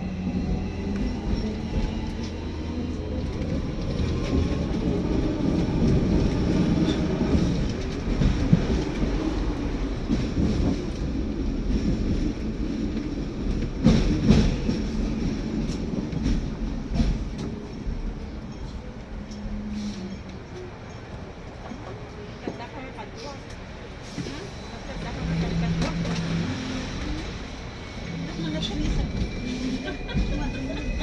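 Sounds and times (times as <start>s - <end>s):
tram rumbling on rails: 0.0s - 31.0s.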